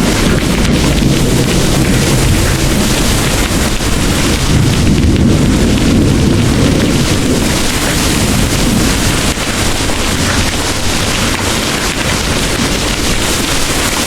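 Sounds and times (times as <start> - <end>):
heavy rain pouring: 0.0 - 14.0
thunder rumbling: 0.0 - 14.0.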